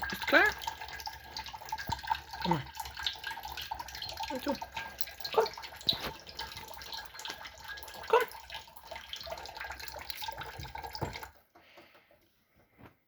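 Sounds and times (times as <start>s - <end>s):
sharp water splashes: 0.0s - 11.3s
water running from a tap: 0.0s - 11.5s.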